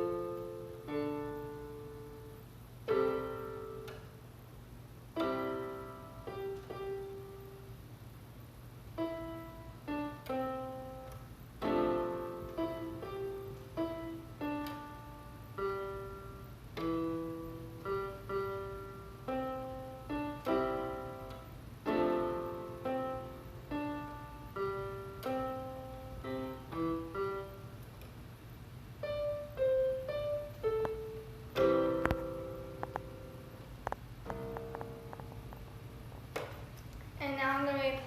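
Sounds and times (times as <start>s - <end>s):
slow solo piano piece: 0.0s - 4.2s, 5.1s - 7.7s, 8.9s - 27.8s, 29.0s - 36.6s.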